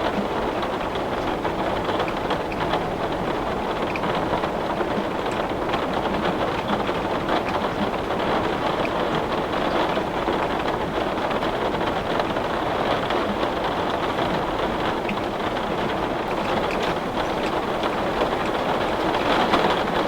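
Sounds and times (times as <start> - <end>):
heavy rain on a window: 0.0 - 20.0.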